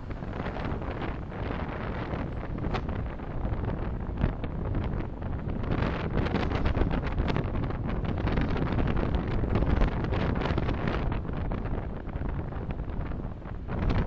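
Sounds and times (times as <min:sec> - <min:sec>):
car road and engine rumble: 0:00.0 - 0:14.0
wind hiss: 0:00.0 - 0:14.0.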